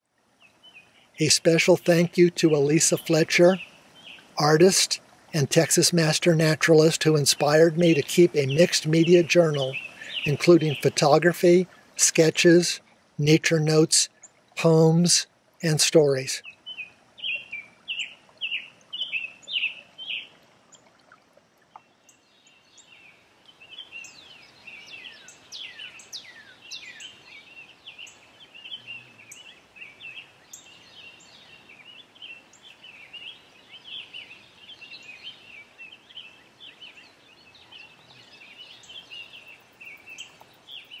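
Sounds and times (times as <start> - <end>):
birds singing and chirping: 0.6 - 20.3, 22.0 - 41.0.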